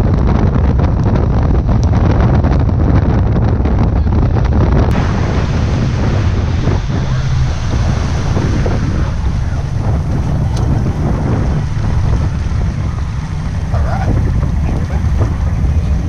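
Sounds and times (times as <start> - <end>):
boat engine drone: 0.0 - 16.0
water rushing against hull: 0.0 - 16.0
wind buffeting microphone: 0.0 - 16.0.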